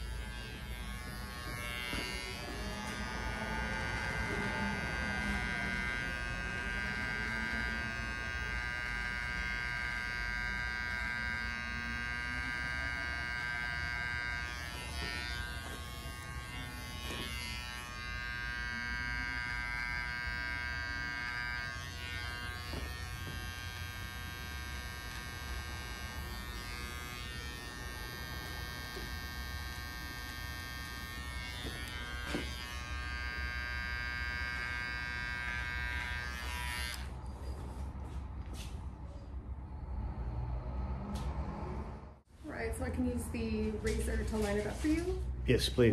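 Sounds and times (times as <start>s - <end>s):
hair clipper buzzing: 0.0s - 37.3s.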